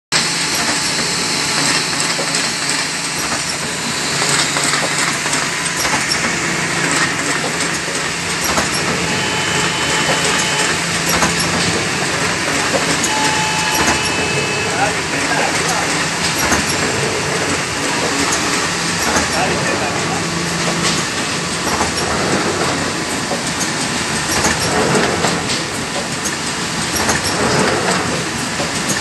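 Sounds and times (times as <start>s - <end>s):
machine rapid mechanical clicks: 0.2s - 14.4s, 15.1s - 29.0s
machine hum: 0.2s - 29.0s.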